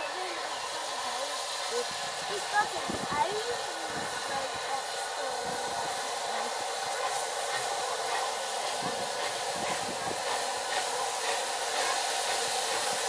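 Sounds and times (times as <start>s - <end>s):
steam hissing: 0.0s - 13.0s
steam locomotive exhaust beats: 0.0s - 13.0s.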